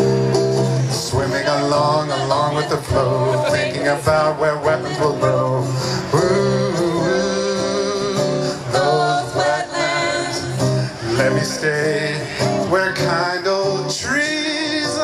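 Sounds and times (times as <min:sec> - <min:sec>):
acoustic guitar: 0:00.0 - 0:15.0
man singing: 0:00.9 - 0:15.0.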